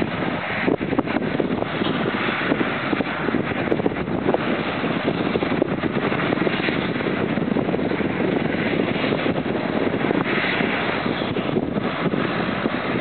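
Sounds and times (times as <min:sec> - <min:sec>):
distant tractors rumbling: 0:00.0 - 0:13.0
wind buffeting microphone: 0:00.0 - 0:13.0.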